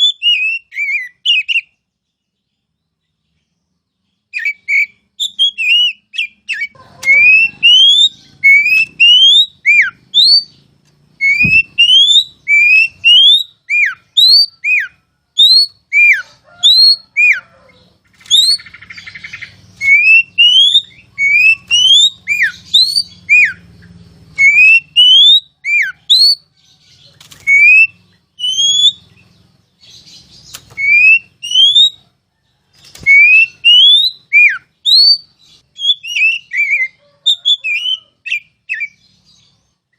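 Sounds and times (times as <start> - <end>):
bird singing clear whistles: 0.0 - 1.8, 4.3 - 10.6, 11.2 - 17.5, 18.2 - 23.7, 24.4 - 26.5, 27.4 - 29.2, 29.8 - 32.0, 32.9 - 39.1.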